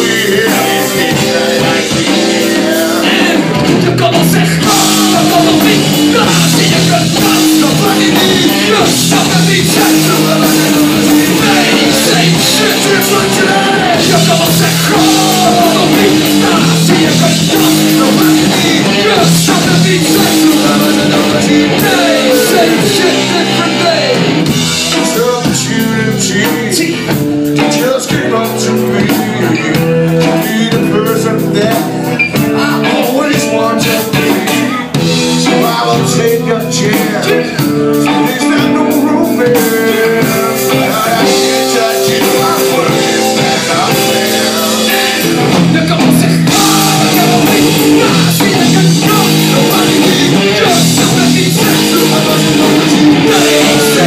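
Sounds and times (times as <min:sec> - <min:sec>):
bass guitar: 0:00.0 - 0:54.0
drum kit: 0:00.0 - 0:54.0
electric guitar: 0:00.0 - 0:54.0
person singing: 0:00.0 - 0:54.0.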